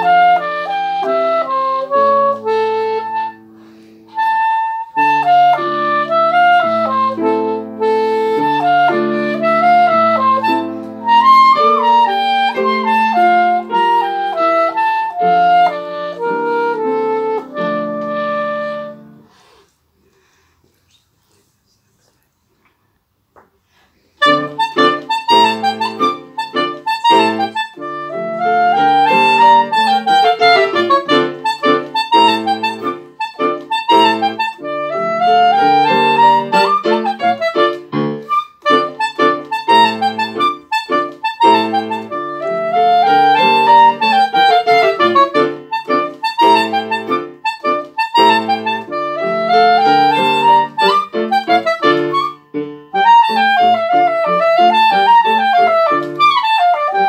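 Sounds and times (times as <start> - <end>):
piano chords: 0.0 - 19.3, 24.2 - 57.0
soprano saxophone melody: 0.0 - 19.4, 24.2 - 57.0.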